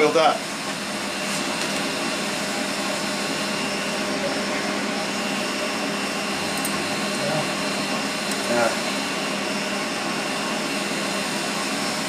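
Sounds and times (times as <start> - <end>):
fan whirring: 0.0 - 12.0.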